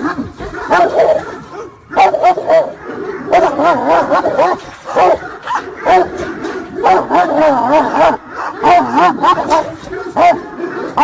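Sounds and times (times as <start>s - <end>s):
dog barking rapidly: 0.0s - 11.0s.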